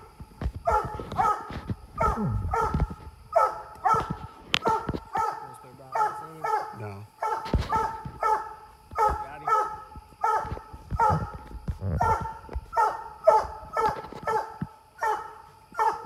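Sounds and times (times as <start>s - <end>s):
dog barking steadily: 0.5s - 16.0s.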